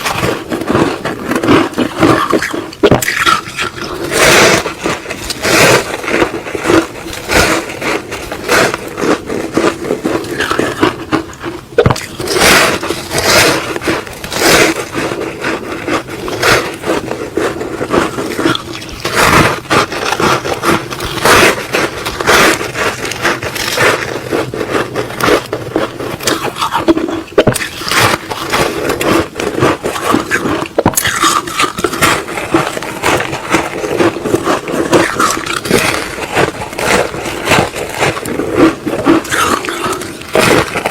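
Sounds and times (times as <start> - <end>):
crunching ice with teeth: 0.0 - 40.9.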